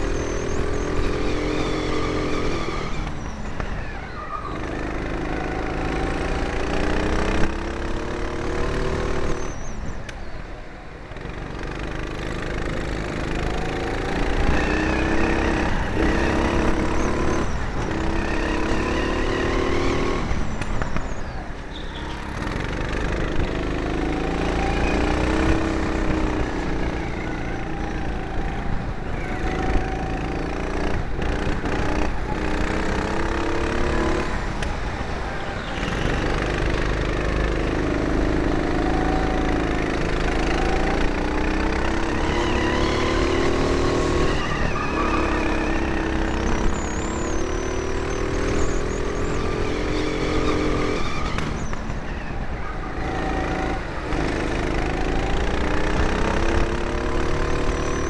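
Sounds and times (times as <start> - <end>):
kart engine revving: 0.0 - 9.7, 11.2 - 58.0.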